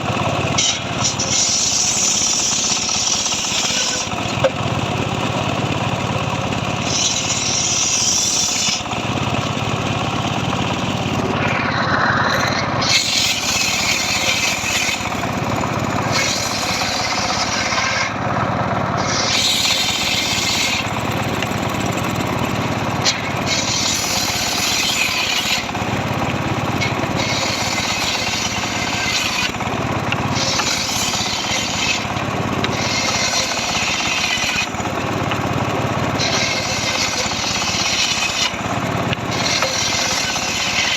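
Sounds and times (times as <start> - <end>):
saw cutting wood hiss: 0.0 - 4.4, 6.7 - 9.1, 10.3 - 18.2, 19.0 - 35.2, 36.1 - 40.9
power saw engine running: 0.0 - 40.9.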